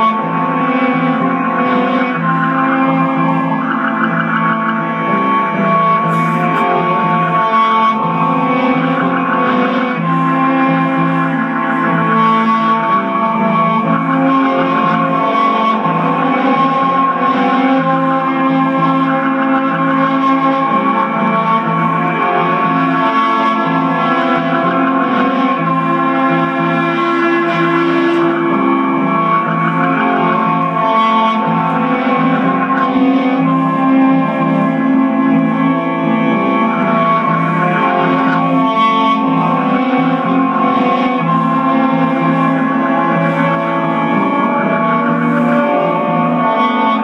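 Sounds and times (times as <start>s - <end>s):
looped electric cello music: 0.0s - 47.0s.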